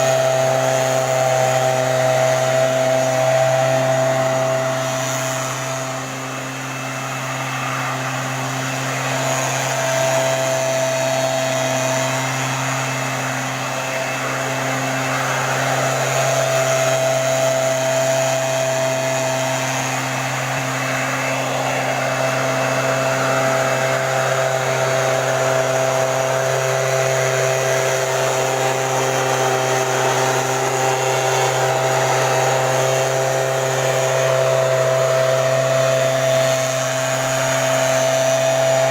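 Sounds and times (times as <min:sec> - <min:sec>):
small petrol engine droning: 0:00.0 - 0:38.9.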